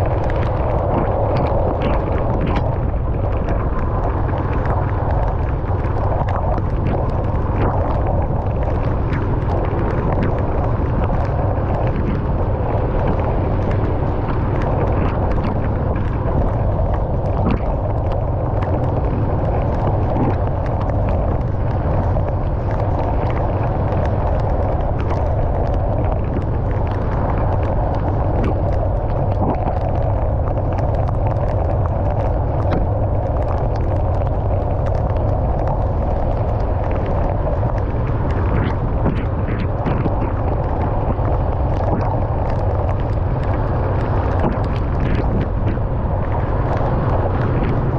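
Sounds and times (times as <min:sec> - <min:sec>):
raindrops ticking on car: 0:00.0 - 0:47.9.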